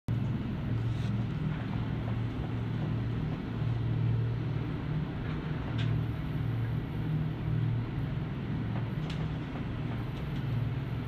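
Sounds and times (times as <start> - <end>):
ship machinery humming: 0.1 - 11.0.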